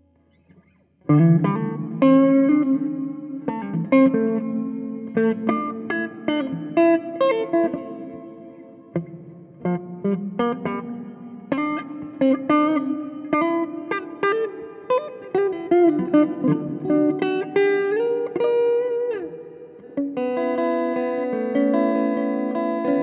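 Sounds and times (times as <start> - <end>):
clean electric guitar notes: 0.0 - 23.0
electric guitar chords ringing: 0.0 - 23.0.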